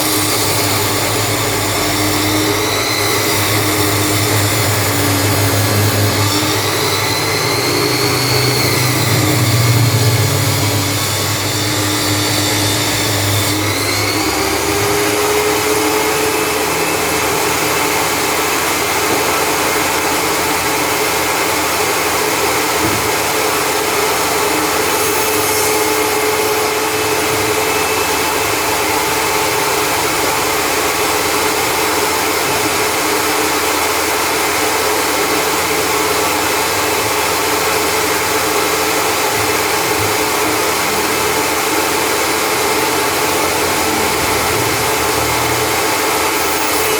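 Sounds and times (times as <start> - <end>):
table saw whining: 0.0 - 46.9.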